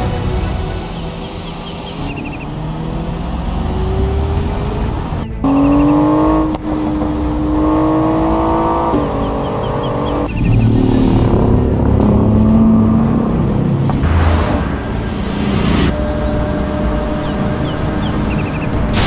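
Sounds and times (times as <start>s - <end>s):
vehicle engine running: 1.4s - 19.0s.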